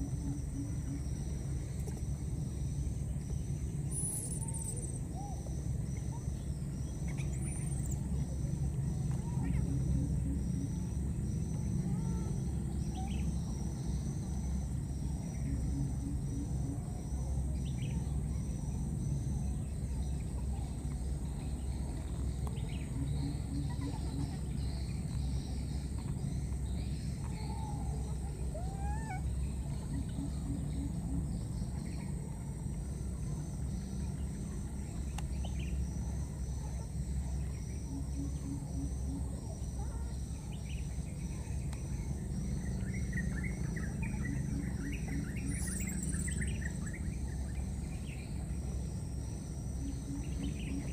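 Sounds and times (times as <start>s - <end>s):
insects chirping rhythmically: 0.0s - 50.9s
steady high whine: 0.0s - 50.9s.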